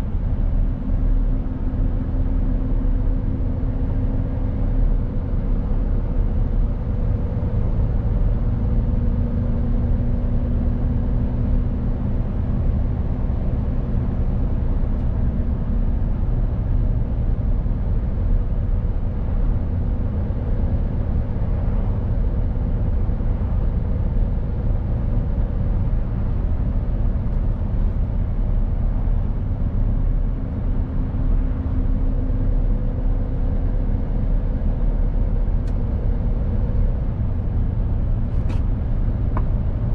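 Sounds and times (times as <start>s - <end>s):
truck diesel engine and road noise: 0.0s - 39.9s.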